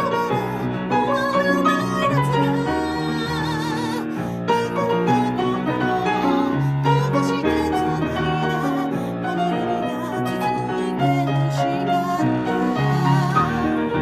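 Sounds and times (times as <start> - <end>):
piano duet: 0.0 - 14.0.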